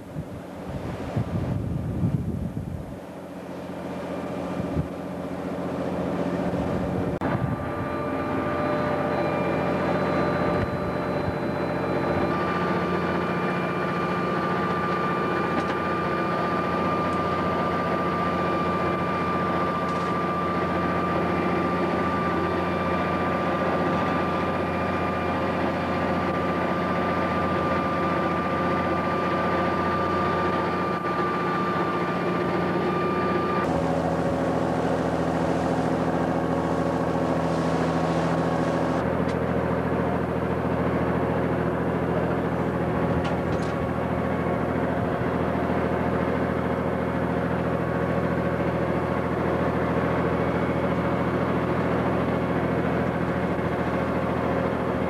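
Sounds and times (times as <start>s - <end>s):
boat diesel engine running: 0.0s - 55.0s
high whine: 0.0s - 55.0s.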